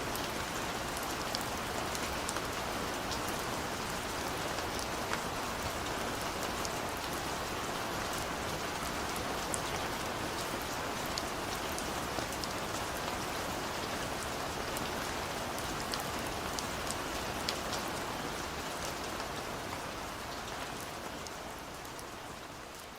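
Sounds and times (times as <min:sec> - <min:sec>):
rain on a window: 0:00.0 - 0:22.9.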